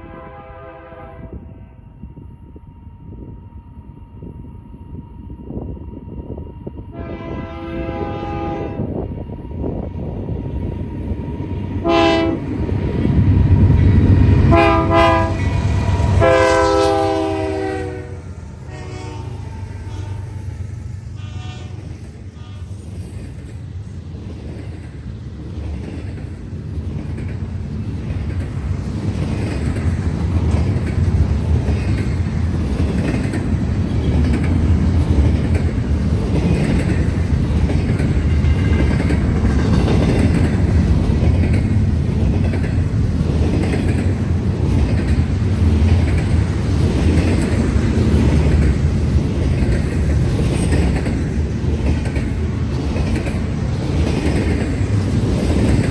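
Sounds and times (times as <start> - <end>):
freight train wheels clacking: 7.0 - 55.9.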